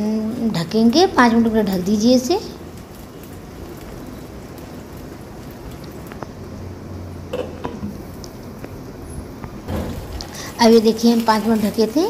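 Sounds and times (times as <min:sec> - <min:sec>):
batter sizzling in oil: 0:00.3 - 0:12.0.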